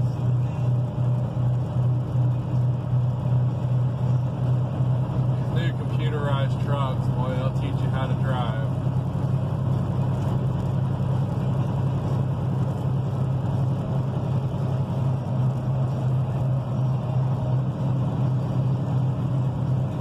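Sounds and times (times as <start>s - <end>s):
in-cabin engine hum: 0.0s - 20.0s
road noise: 0.0s - 20.0s.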